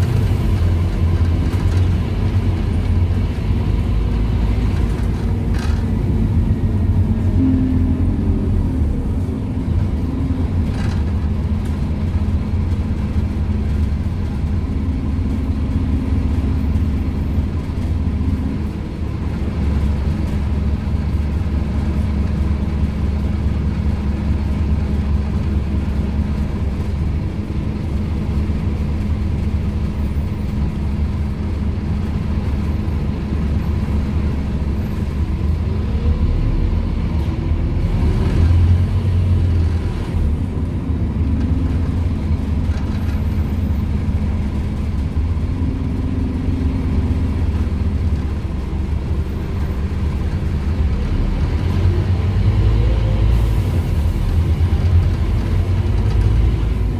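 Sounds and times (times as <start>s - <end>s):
bus diesel engine rumbling: 0.0s - 56.9s.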